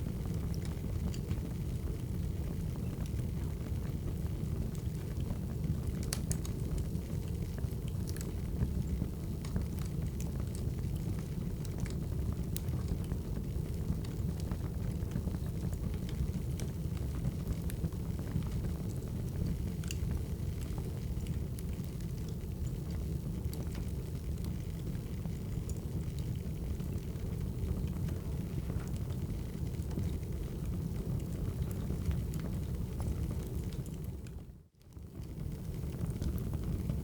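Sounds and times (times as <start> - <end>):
fire rumbling: 0.0 - 37.0
fire popping and snapping: 0.1 - 37.0.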